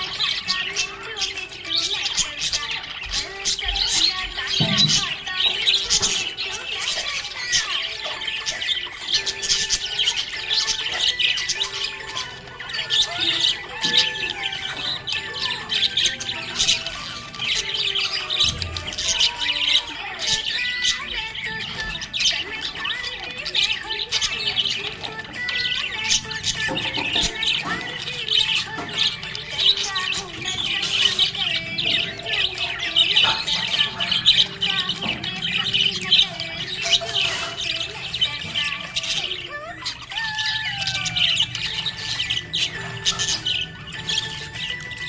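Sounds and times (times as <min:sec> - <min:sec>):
budgerigars chirping and squawking: 0:00.0 - 0:45.0.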